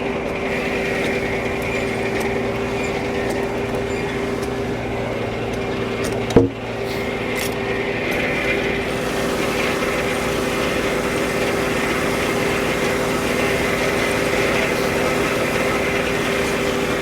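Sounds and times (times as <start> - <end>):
sawmill mechanical hum: 0.0 - 17.0.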